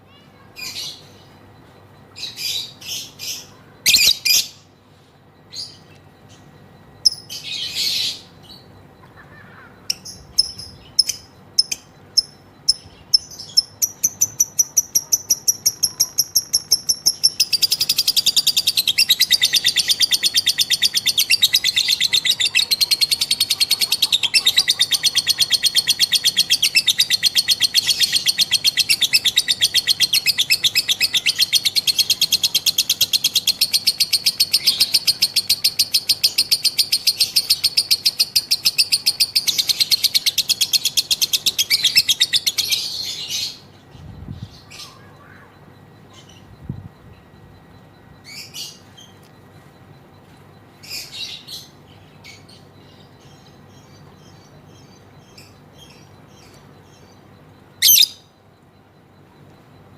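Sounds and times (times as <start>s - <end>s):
lovebird chattering trill: 2.0s - 4.7s, 5.5s - 49.2s, 50.8s - 58.4s.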